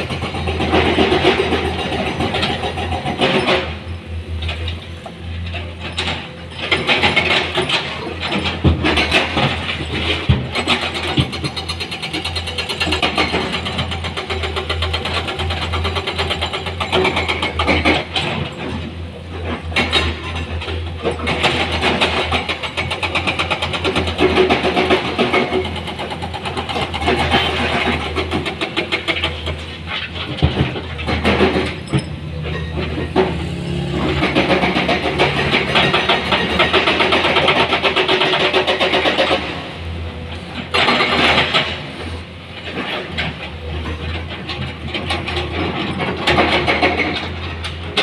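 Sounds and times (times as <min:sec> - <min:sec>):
knocks and clatter: 0:04.4 - 0:39.6, 0:40.3 - 0:41.9, 0:42.6 - 0:48.0.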